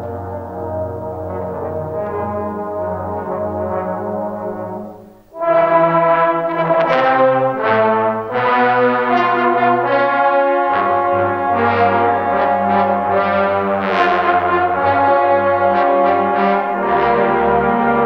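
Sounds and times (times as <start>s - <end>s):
trombone choir playing chords: 0.0s - 18.0s.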